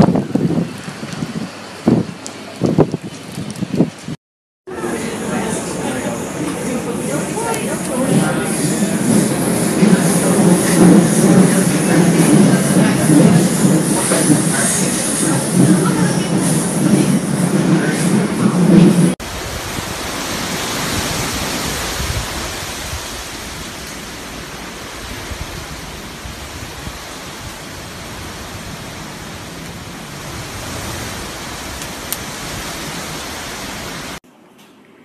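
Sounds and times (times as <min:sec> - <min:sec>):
storm wind and rain rushing: 0:00.0 - 0:34.2.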